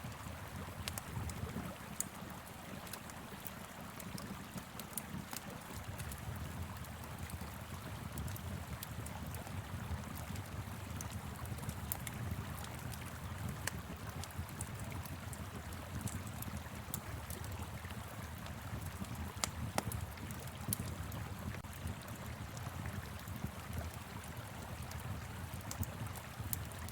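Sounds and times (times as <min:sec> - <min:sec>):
wood fire crackling: 0:00.1 - 0:26.9.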